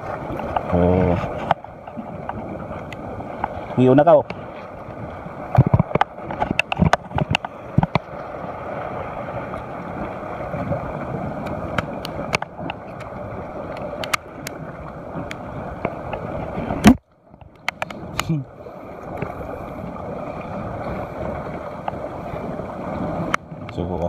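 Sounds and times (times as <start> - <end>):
waves against rocky shore: 0.0 - 24.0
wind on microphone: 0.0 - 24.0.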